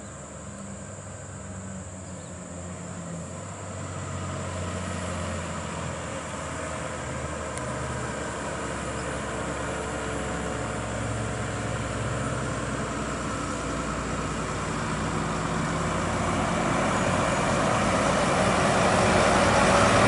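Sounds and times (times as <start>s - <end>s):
truck diesel engine rumble: 0.0s - 20.0s.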